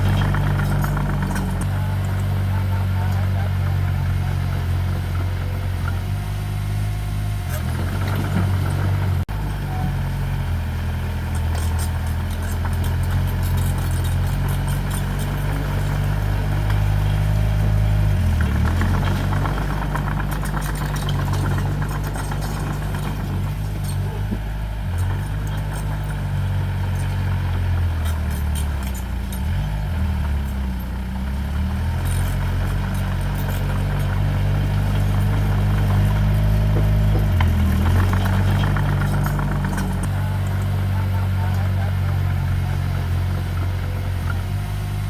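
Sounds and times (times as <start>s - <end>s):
light metallic clatter: 0.0s - 4.4s, 11.1s - 44.8s
heavy machinery diesel engine: 0.0s - 45.0s.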